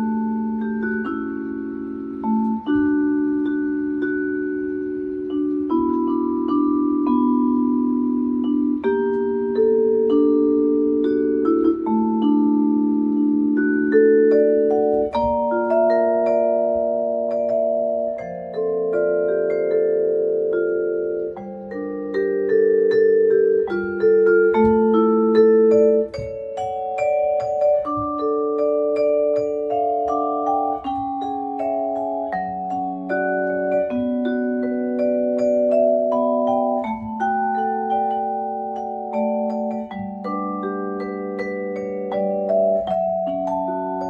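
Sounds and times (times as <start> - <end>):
vibraphone melody over chords: 0.0 - 44.0.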